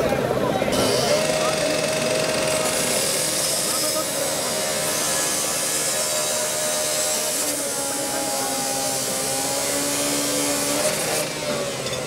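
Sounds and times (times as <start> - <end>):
angle grinder cutting metal: 0.7 - 12.0.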